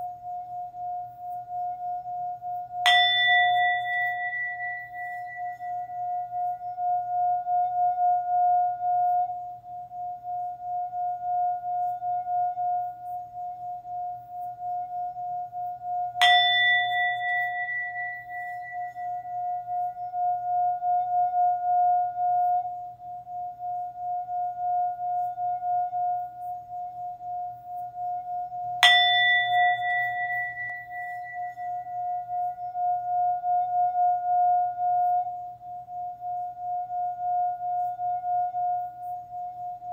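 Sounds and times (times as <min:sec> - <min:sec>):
singing bowl tone: 0:00.0 - 0:39.9
singing bowl strike ringing: 0:02.7 - 0:12.9, 0:15.9 - 0:26.8, 0:27.7 - 0:39.9.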